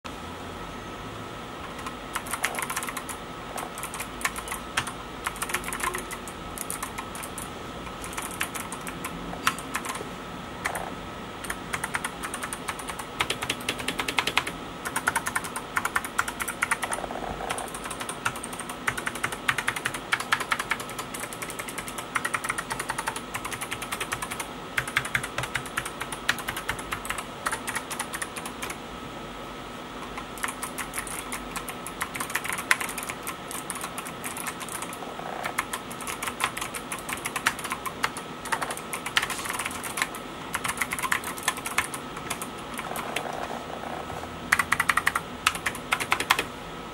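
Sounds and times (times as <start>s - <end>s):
keyboard typing: 1.6s - 10.0s, 10.6s - 28.8s, 30.0s - 46.5s.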